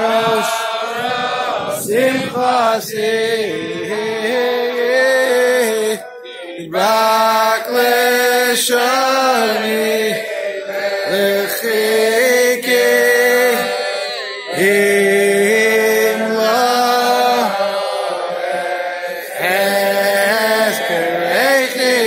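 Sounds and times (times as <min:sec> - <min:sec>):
men singing in unison: 0:00.0 - 0:22.0.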